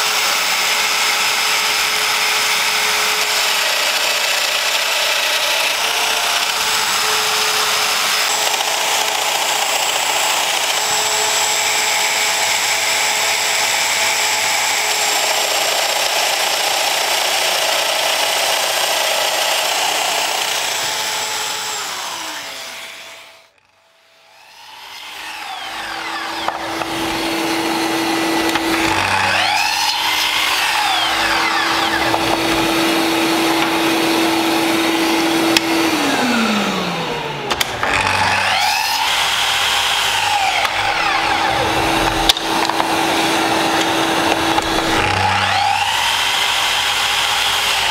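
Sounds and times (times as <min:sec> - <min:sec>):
dust extractor: 0:00.0 - 0:23.7, 0:24.4 - 0:47.9
mitre saw whining and cutting: 0:00.0 - 0:47.9
joiner cutting wood: 0:00.3 - 0:23.8, 0:24.8 - 0:36.4, 0:37.5 - 0:47.9.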